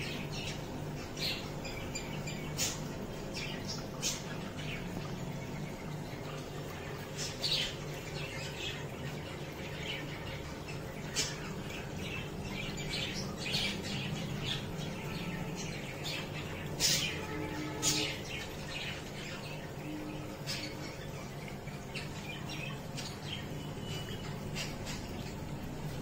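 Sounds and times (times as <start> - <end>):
birds chirping and squawking: 0.0 - 26.0.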